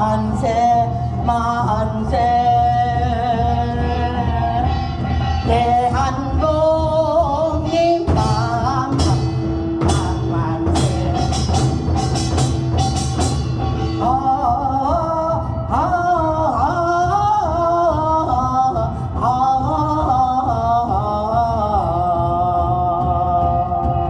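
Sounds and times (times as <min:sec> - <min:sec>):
person singing a melody: 0:00.0 - 0:12.5, 0:14.0 - 0:24.0
rapid drum strokes: 0:00.0 - 0:24.0
steady low drum beat: 0:00.0 - 0:24.0.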